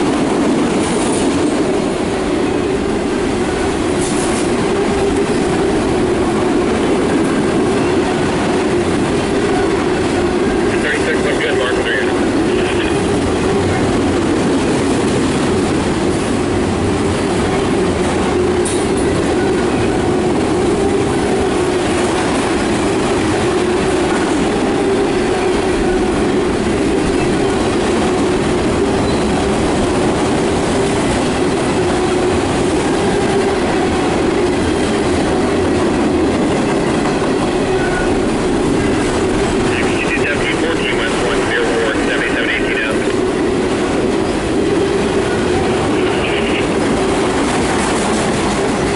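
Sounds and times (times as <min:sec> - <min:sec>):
distant train passing: 0:00.0 - 0:48.9
train wheels rumbling on rails: 0:00.0 - 0:48.9.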